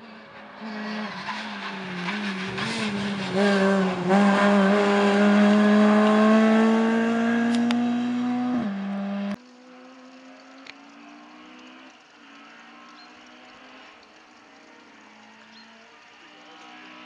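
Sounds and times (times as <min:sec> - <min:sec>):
distant rally car engine: 0:00.0 - 0:17.0
rally car engine revving: 0:00.0 - 0:17.0.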